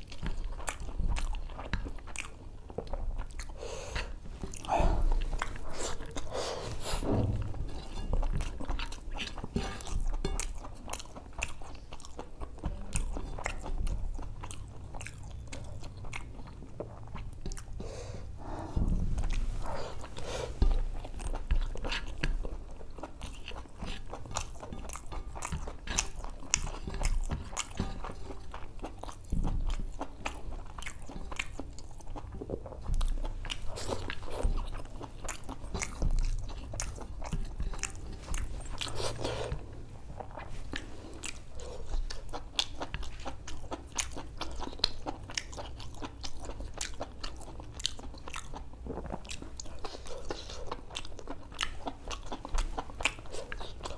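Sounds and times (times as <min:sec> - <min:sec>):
wet chewing mouth sounds: 0:00.0 - 0:53.9.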